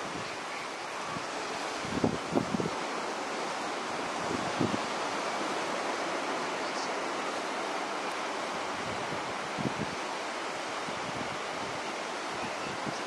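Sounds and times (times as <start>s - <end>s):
sea surf: 0.0s - 13.0s
wind buffeting microphone: 0.0s - 13.0s
wind hiss: 0.0s - 13.0s.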